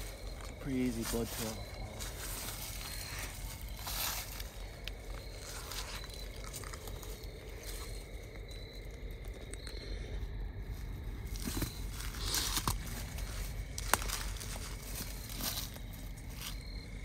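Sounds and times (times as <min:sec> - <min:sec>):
footsteps crunching through dry leaves: 0:00.0 - 0:08.8, 0:10.7 - 0:17.0.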